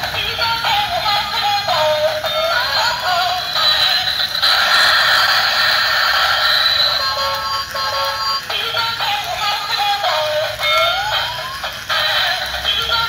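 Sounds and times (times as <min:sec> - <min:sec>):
toy electronic tune: 0:00.0 - 0:13.0.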